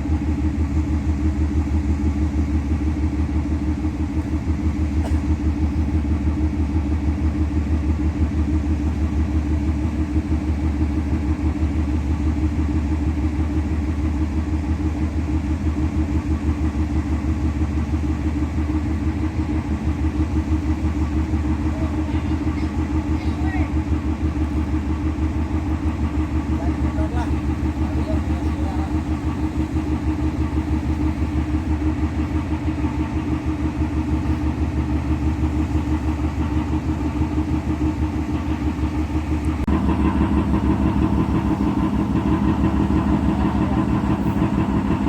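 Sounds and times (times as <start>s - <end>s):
large engine idling: 0.0s - 45.0s.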